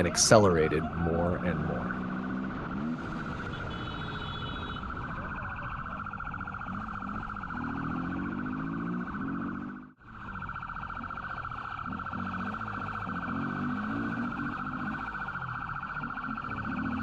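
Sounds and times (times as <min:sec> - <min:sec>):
motorcycle engine revving: 0:00.0 - 0:17.0
police siren wailing: 0:00.0 - 0:17.0.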